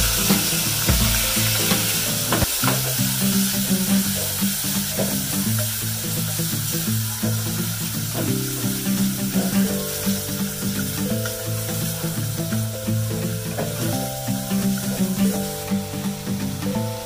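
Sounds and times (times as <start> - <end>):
background music with held notes: 0.0 - 17.0
sea snails sizzling in a pot: 0.0 - 17.0.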